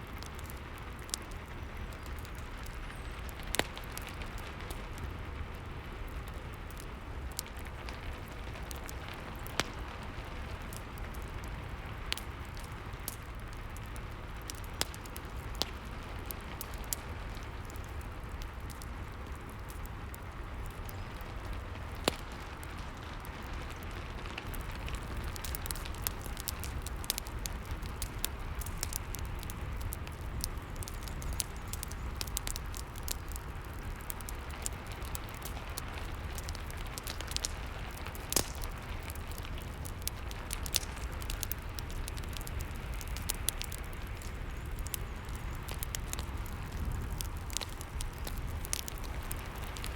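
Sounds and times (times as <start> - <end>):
rainfall hiss: 0.0 - 49.9
wood fire crackling and popping: 0.0 - 49.9.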